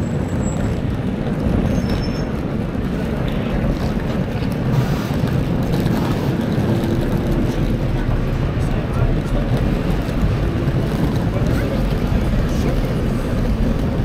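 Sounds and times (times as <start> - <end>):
bus engines rumbling: 0.0 - 14.0
road traffic: 0.0 - 14.0.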